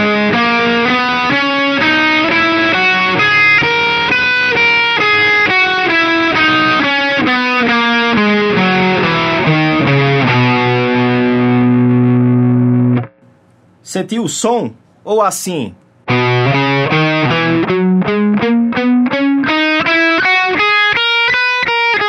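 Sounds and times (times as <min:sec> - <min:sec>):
distorted electric guitar scale: 0:00.0 - 0:13.2, 0:16.1 - 0:22.0.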